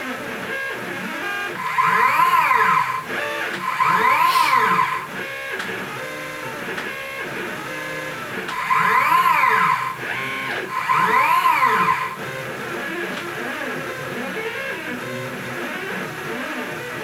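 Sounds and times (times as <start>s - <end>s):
stepper motor whine: 1.2s - 15.3s.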